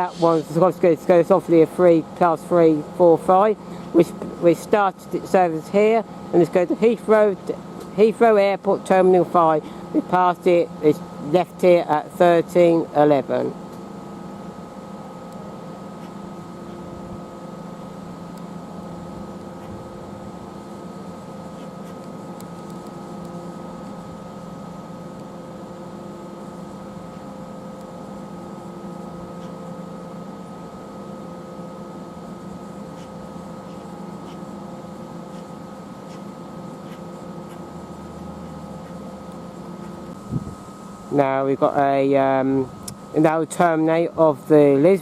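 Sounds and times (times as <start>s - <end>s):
electrical hum: 0.0s - 45.0s.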